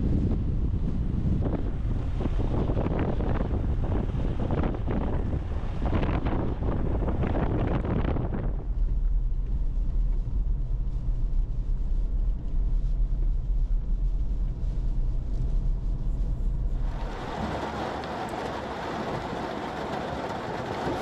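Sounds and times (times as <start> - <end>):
vehicle driving drone inside cabin: 0.0 - 21.0
wind buffeting microphone: 0.0 - 21.0.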